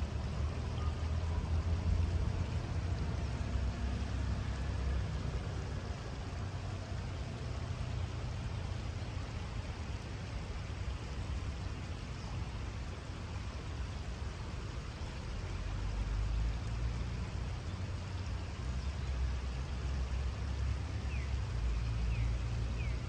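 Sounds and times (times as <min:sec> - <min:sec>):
river water flowing over stones: 0:00.0 - 0:23.0.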